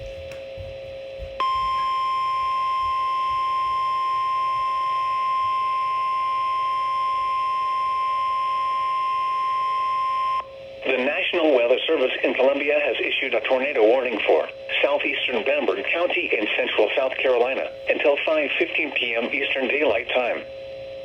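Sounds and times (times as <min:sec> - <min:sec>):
loud steady high alarm tone: 0:00.0 - 0:21.0.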